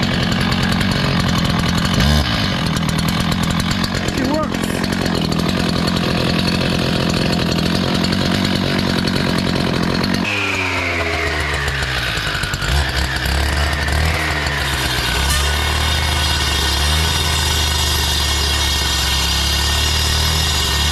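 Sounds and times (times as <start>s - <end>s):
cut-off saw running: 0.0s - 20.9s
saw blade cutting concrete: 0.0s - 20.9s.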